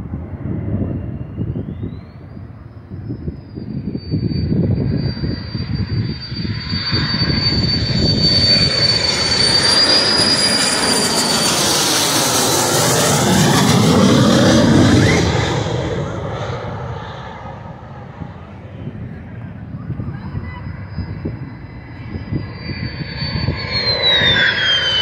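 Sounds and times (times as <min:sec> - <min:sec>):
jet passing overhead: 0:00.0 - 0:25.0.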